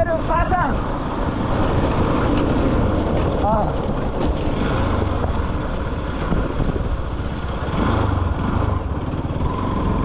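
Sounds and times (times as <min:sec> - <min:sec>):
road and wind noise: 0:00.0 - 0:10.0
motorcycle engine rumble: 0:00.8 - 0:10.0.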